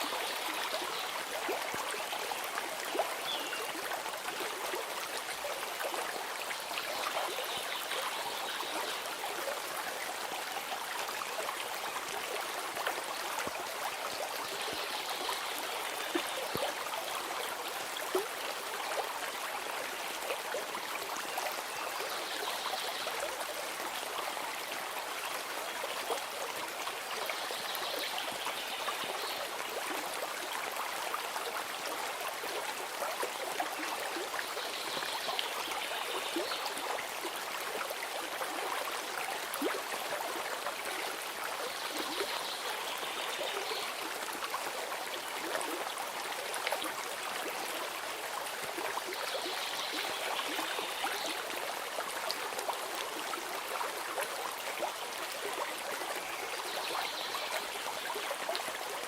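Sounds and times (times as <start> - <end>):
stream of running water: 0.0 - 59.0.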